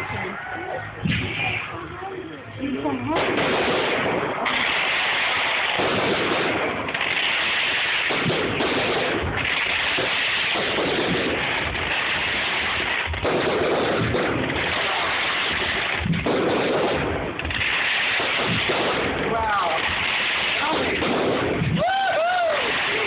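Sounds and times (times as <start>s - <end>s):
fireworks hissing crackle: 0.0s - 23.0s.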